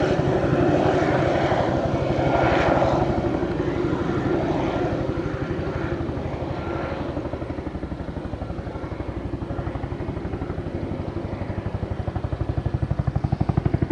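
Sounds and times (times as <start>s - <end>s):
helicopter rotors beating: 0.0s - 13.9s.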